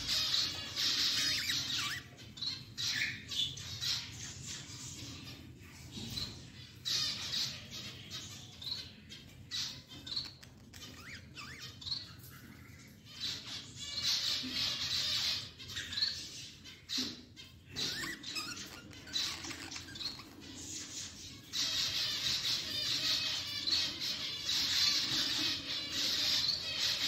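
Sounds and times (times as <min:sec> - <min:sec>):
budgerigars chirping and squawking: 0:00.0 - 0:27.0.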